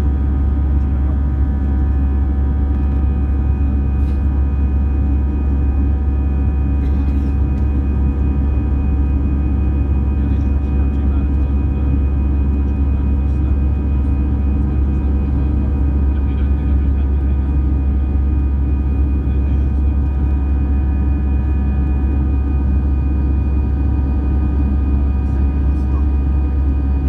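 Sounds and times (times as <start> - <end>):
jet engine deep rumble: 0.0 - 27.0
steady humming tones: 0.0 - 27.0.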